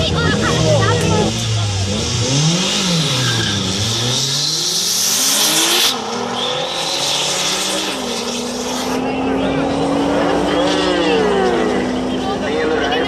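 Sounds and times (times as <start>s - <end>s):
racing car engines revving: 0.0s - 13.0s.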